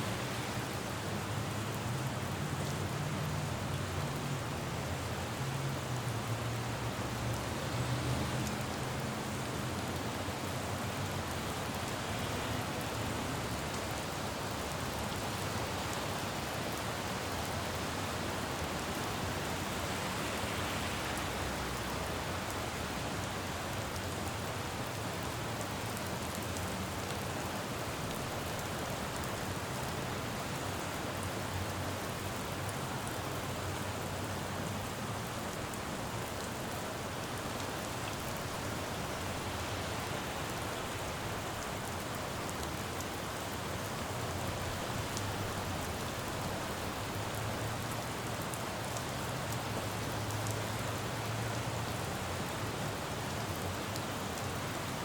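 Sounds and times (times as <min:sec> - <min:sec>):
low rumble of road traffic: 0:00.0 - 0:55.0
rain falling on pavement: 0:00.0 - 0:55.0.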